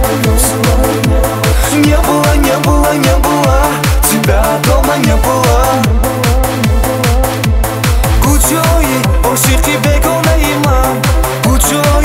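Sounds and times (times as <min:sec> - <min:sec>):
electronic dance music: 0:00.0 - 0:12.0
kick drum: 0:00.0 - 0:12.0
synthesizer melody: 0:00.0 - 0:12.0.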